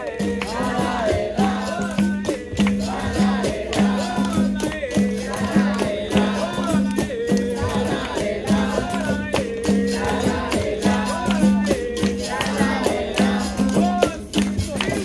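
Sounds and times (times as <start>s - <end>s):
call and response singing: 0.0s - 15.0s
shaker rattle: 0.0s - 15.0s
tambourine rhythm: 0.0s - 15.0s.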